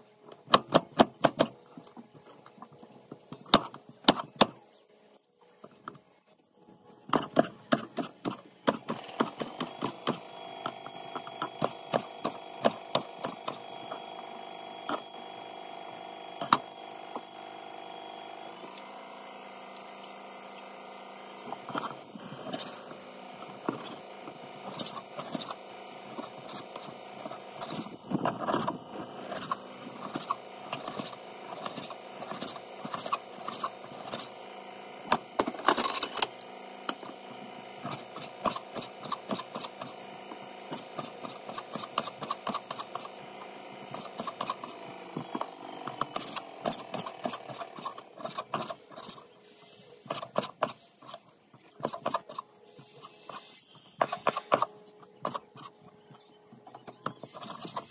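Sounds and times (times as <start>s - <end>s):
steady background hum: 0.0s - 57.9s.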